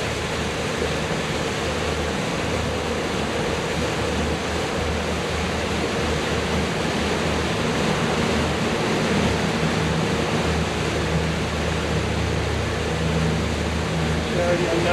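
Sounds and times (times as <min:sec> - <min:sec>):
boat motor humming: 0:00.0 - 0:14.9
water rushing: 0:00.0 - 0:14.9.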